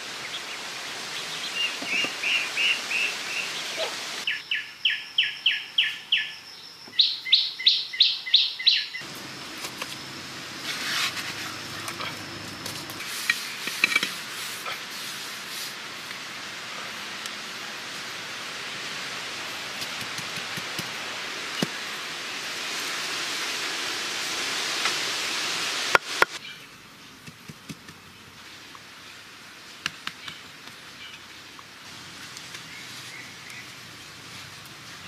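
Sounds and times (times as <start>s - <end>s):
steady hiss: 0.0s - 7.6s, 8.2s - 35.0s.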